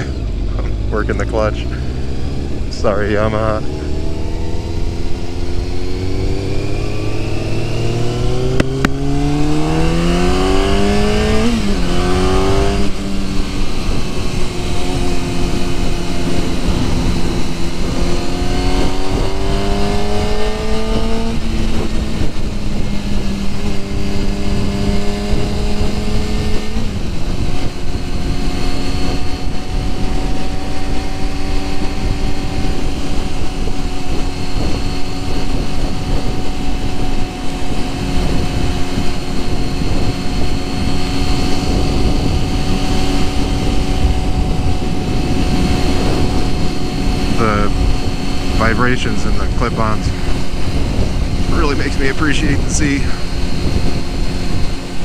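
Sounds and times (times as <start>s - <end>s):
motorcycle engine accelerating: 0.0s - 55.0s
wind noise: 0.0s - 55.0s.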